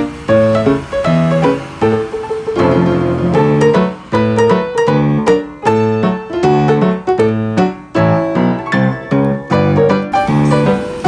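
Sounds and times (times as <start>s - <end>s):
bouncy piano chords: 0.0s - 11.0s.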